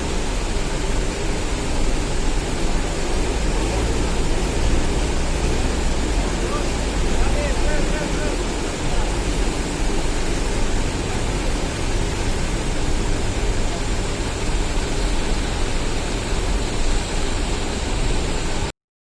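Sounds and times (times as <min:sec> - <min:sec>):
steady loud rumbling: 0:00.0 - 0:18.7.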